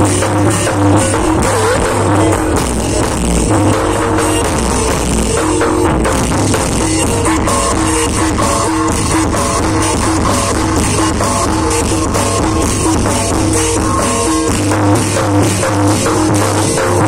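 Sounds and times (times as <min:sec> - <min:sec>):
steady drum beat: 0:00.0 - 0:17.0
held melody notes: 0:00.6 - 0:17.0.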